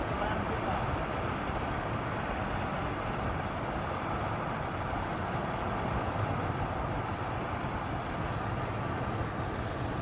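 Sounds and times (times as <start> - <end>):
road and wind noise of vehicle: 0.0 - 10.0.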